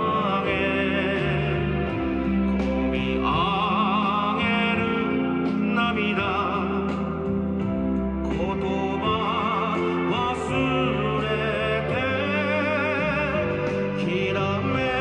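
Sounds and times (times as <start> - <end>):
slow melody with vibrato: 0.0 - 15.0
sustained low chords: 0.0 - 15.0.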